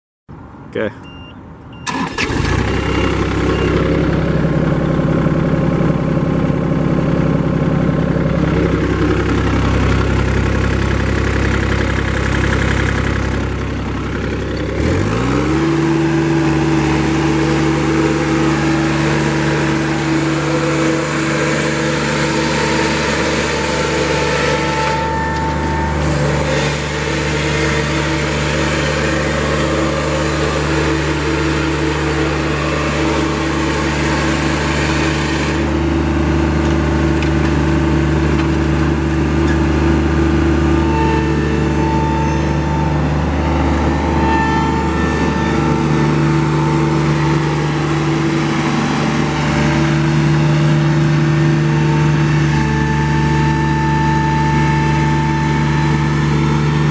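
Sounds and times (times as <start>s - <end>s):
diesel mower engine running: 1.8s - 56.9s.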